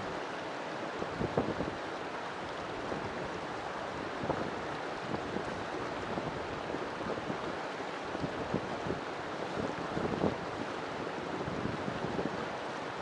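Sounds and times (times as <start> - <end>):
river water flowing and splashing: 0.0 - 13.0.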